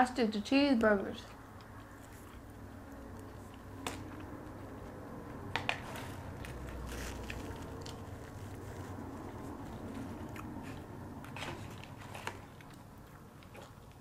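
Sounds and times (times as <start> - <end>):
chewing food: 1.2 - 14.0.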